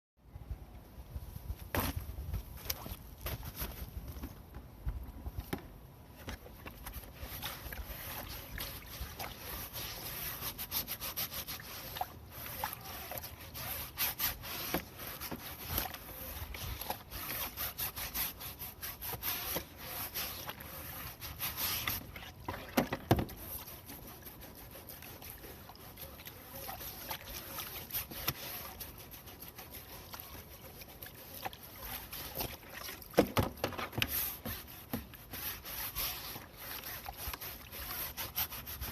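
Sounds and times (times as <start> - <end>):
scrubbing a metal filter: 6.3 - 38.9.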